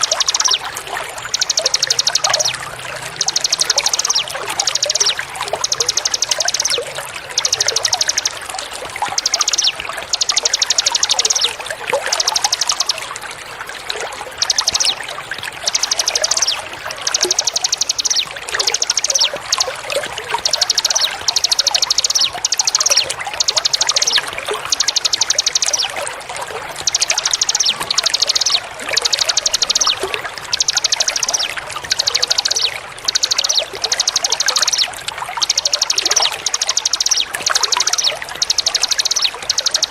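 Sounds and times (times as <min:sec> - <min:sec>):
bird trilling: 0:00.0 - 0:13.1, 0:14.3 - 0:26.1, 0:26.8 - 0:39.9
water trickling: 0:00.0 - 0:39.9.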